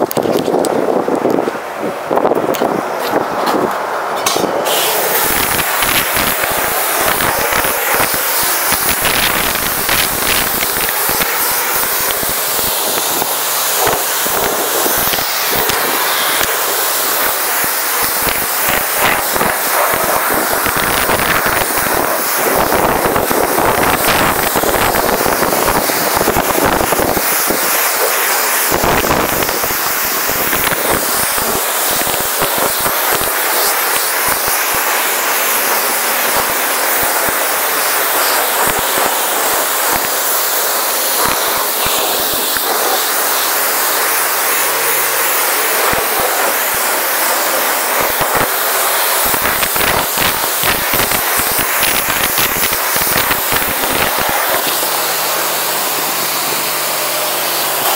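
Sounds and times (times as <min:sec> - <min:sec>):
pressure washer spraying car: 0:00.0 - 0:57.9.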